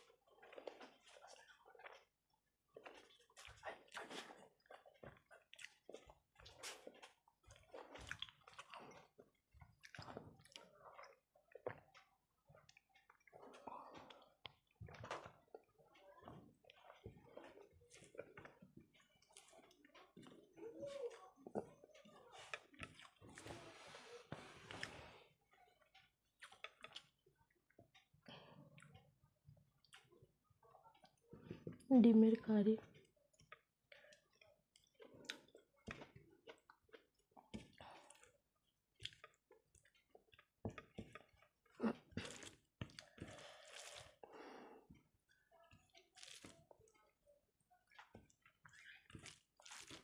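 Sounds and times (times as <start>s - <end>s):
chewing food: 0.0s - 50.0s.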